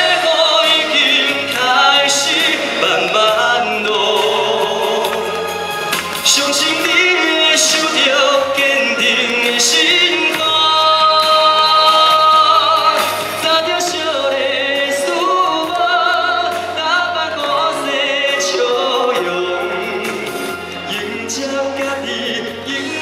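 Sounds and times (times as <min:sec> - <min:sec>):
band playing: 0:00.0 - 0:23.0
man singing: 0:00.0 - 0:23.0.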